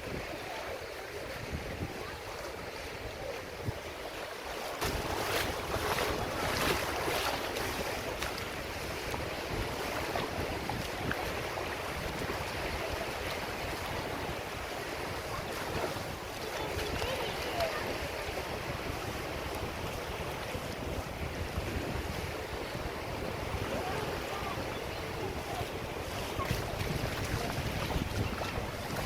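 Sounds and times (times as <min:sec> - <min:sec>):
wind buffeting microphone: 0:00.0 - 0:04.2, 0:04.8 - 0:29.0
water splashing against boat: 0:00.0 - 0:29.0.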